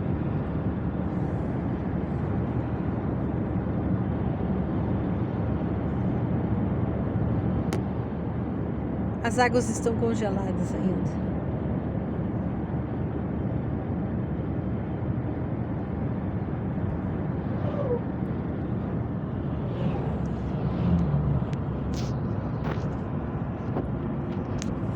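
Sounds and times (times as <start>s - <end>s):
car road and engine noise: 0.0s - 24.9s.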